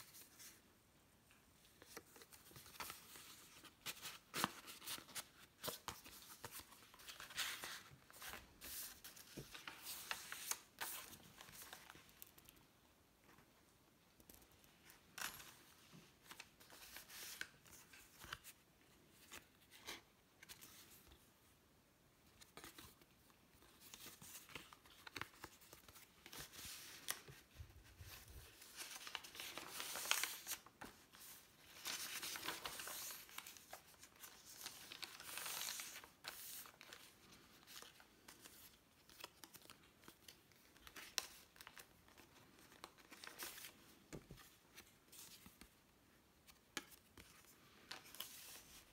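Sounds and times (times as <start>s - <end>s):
paper pages rustling: 1.6s - 12.6s, 14.2s - 21.1s, 22.3s - 45.8s, 46.4s - 48.9s.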